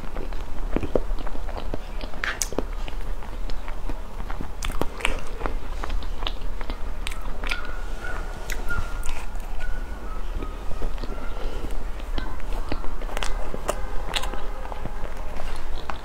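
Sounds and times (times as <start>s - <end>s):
close chewing mouth sounds: 0.0s - 16.0s.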